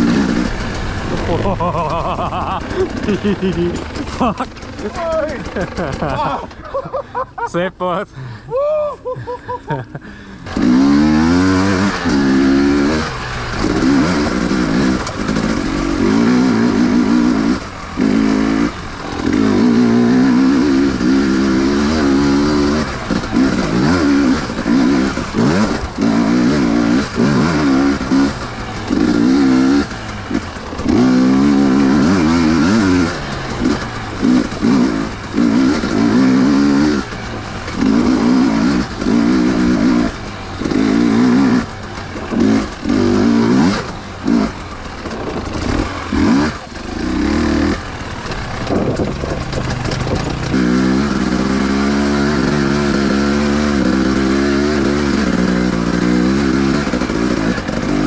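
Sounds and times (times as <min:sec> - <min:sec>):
dirt bike engine revving: 0:00.0 - 0:08.3, 0:09.4 - 0:58.0.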